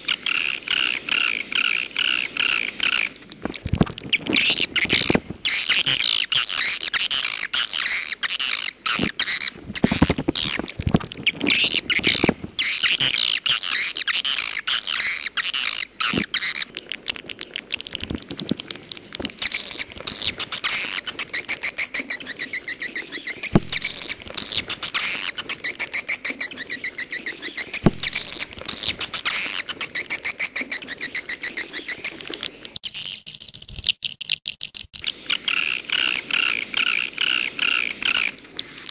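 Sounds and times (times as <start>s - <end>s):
swiftlet calls twittering: 0.0s - 38.9s.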